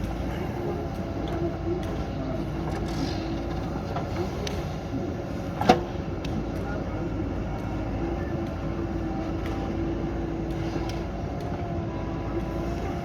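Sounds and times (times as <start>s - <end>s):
diesel engine running: 0.0s - 13.0s
thin steady whine: 0.0s - 13.0s.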